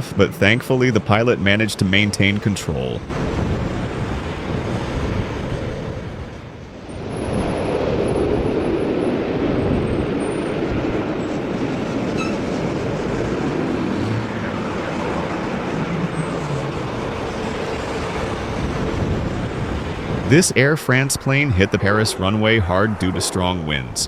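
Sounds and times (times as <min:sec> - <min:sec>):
airliner engines roaring: 0:00.0 - 0:24.0
strong wind: 0:00.0 - 0:24.0.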